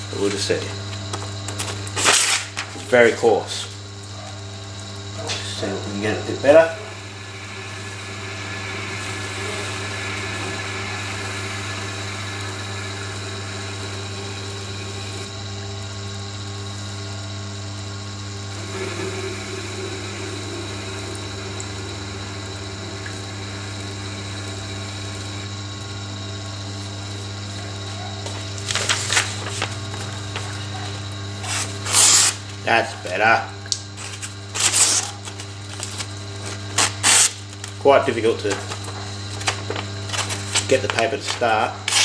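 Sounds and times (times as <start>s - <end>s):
grinder motor humming: 0.0s - 42.0s.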